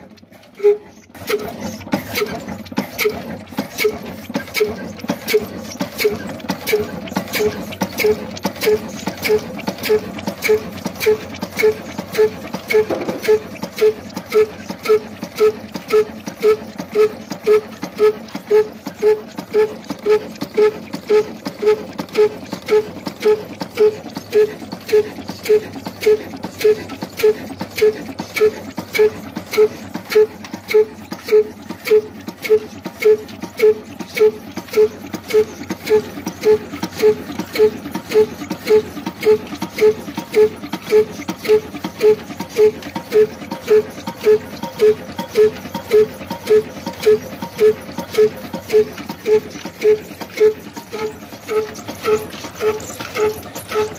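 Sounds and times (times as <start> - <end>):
slow diesel engine running: 0.0 - 53.9.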